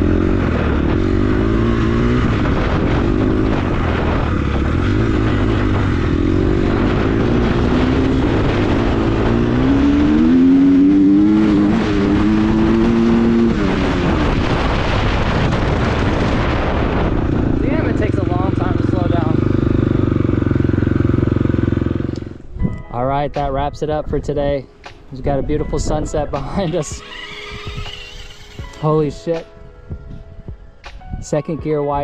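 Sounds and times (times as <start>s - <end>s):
dirt bike engine at full throttle: 0.0s - 22.5s, 25.4s - 29.4s.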